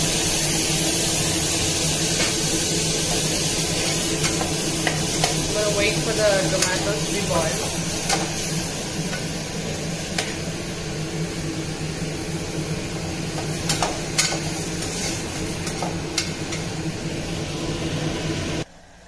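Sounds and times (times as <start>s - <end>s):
pressure cooker hissing: 0.0s - 18.8s.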